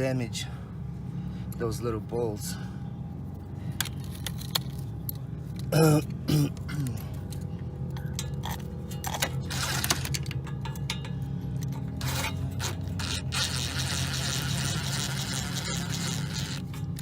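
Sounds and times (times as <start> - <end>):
steady low motor hum: 0.0 - 17.0.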